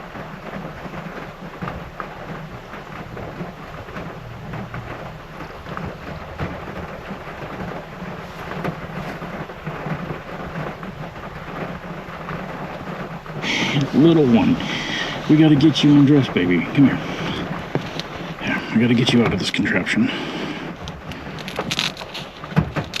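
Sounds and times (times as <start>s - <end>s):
heavy rain pouring: 0.0s - 23.0s
rumble of thunder: 0.0s - 23.0s.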